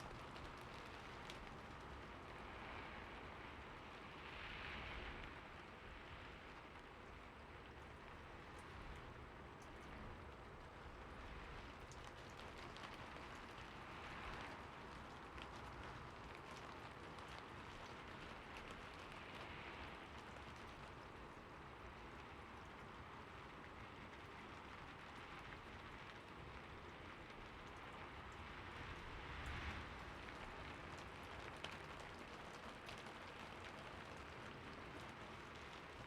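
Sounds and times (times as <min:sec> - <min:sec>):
raindrops ticking: 0:00.0 - 0:02.7, 0:07.7 - 0:36.0
soft steady rain: 0:00.0 - 0:36.0.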